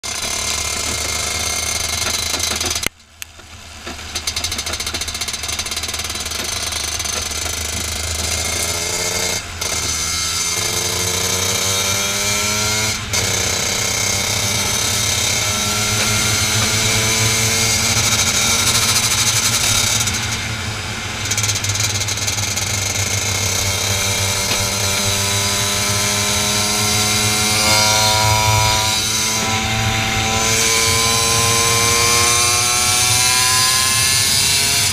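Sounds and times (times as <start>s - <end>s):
racing kart engine at full throttle: 0.0s - 2.9s, 3.8s - 34.9s.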